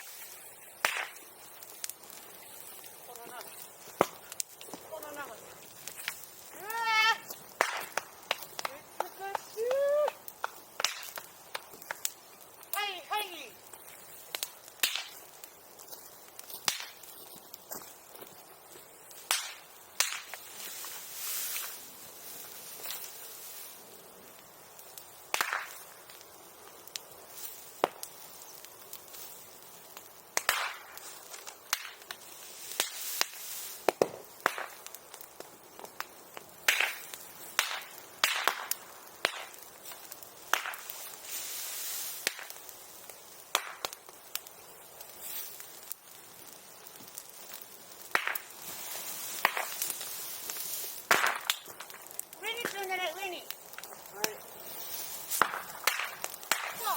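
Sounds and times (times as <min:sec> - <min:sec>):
bonfire crackling and popping: 0:00.0 - 0:56.9.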